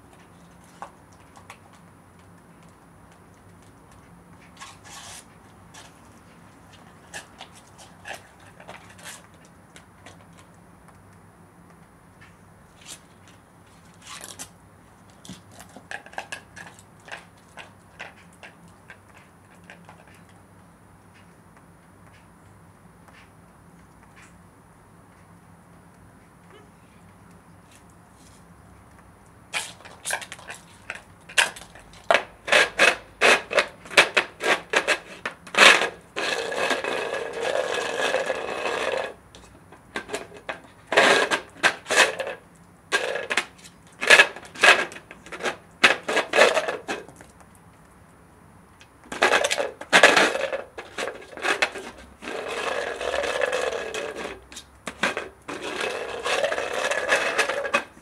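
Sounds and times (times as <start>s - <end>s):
ball rolling on concrete: 0.0s - 21.3s, 27.5s - 47.6s, 48.8s - 58.0s.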